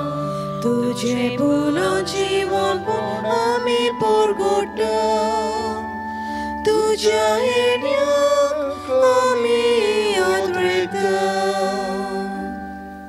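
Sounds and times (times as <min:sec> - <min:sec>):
church choir singing: 0:00.0 - 0:13.0
instrumental accompaniment: 0:00.0 - 0:13.0.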